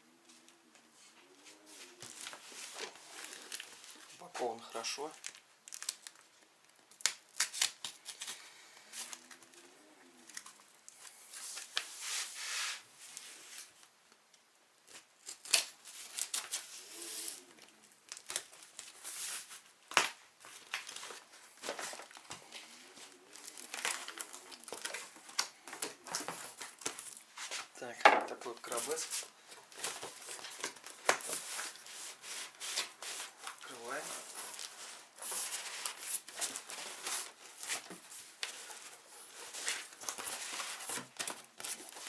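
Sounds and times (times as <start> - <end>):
packaging crinkling and tearing: 2.0 - 11.9, 14.9 - 27.7, 28.3 - 42.0.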